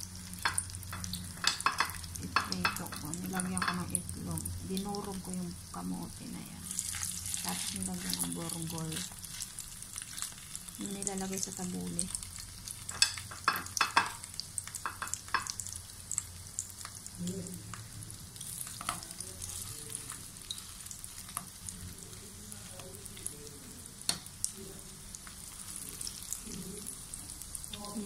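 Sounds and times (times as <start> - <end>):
patties sizzling in oil: 0.0 - 28.0.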